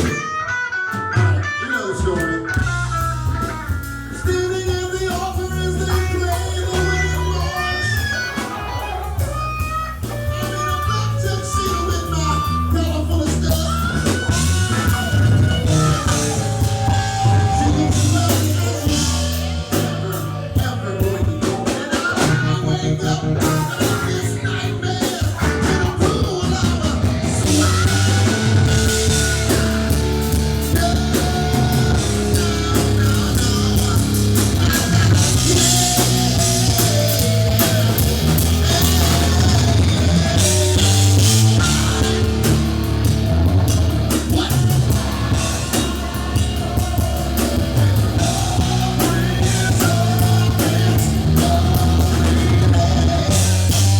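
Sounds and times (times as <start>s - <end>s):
bass guitar: 0.0s - 53.9s
drum kit with cymbals: 0.0s - 53.9s
electric guitar: 0.0s - 53.9s
person singing: 3.4s - 53.9s.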